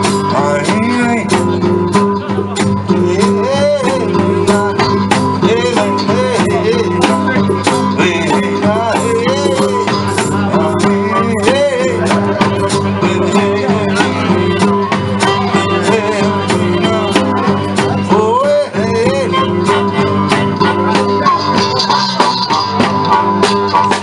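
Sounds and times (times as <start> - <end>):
live blues band playing: 0.0 - 24.0.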